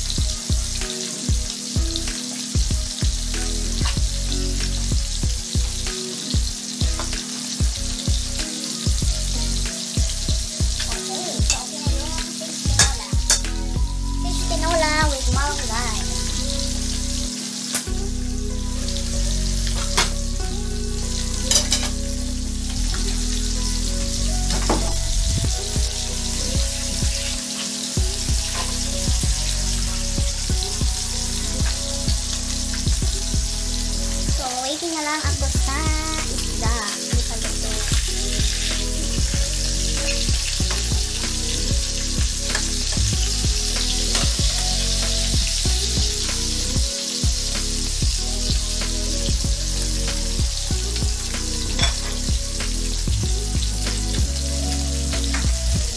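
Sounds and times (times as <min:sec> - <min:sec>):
background music with low notes: 0:00.0 - 0:55.9
fish frying in hot oil: 0:00.0 - 0:55.9.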